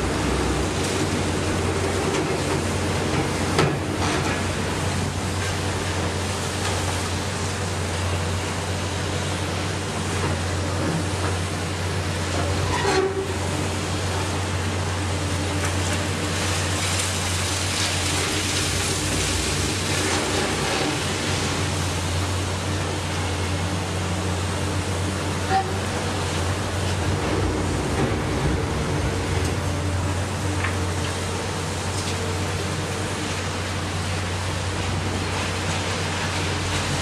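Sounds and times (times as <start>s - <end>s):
demolition work noise: 0.0s - 37.0s
diesel engine drone: 0.0s - 37.0s.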